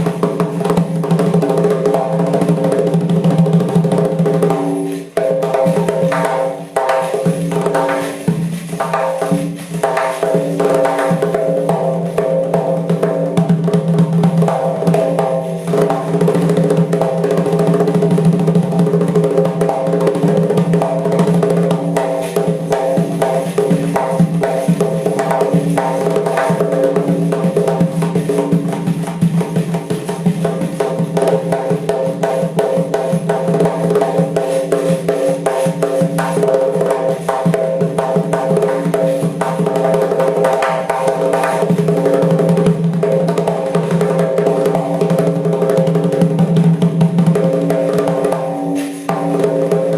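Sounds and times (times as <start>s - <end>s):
frame drum with jingles: 0.0s - 49.9s.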